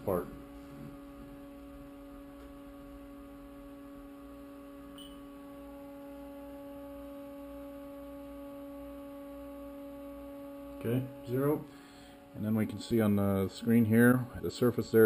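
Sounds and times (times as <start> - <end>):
electrical hum of milling machine: 0.0 - 15.0.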